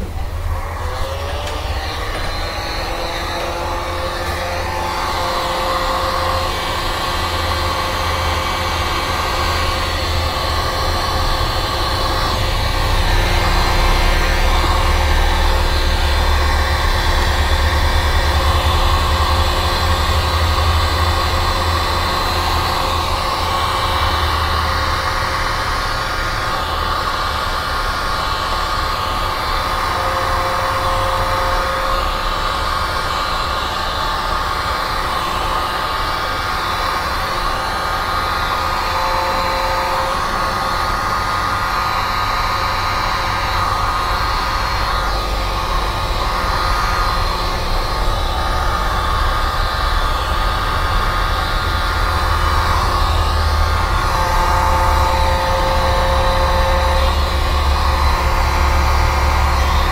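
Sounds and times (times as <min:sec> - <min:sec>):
heat gun blowing air: 0:00.0 - 0:59.9.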